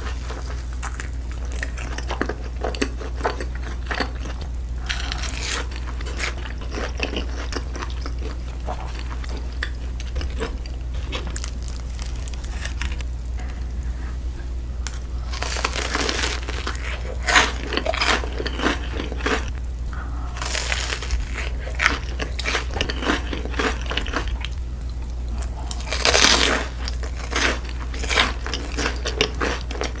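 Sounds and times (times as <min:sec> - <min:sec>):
chewing crunchy fried food: 0:00.0 - 0:14.2, 0:14.9 - 0:30.0
steady low hum: 0:00.0 - 0:30.0.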